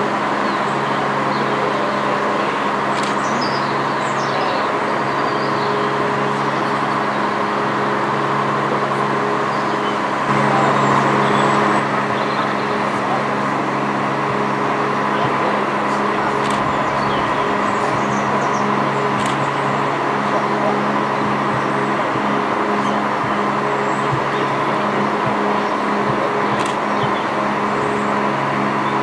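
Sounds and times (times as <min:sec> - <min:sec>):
engine idling drone: 0:00.0 - 0:29.0.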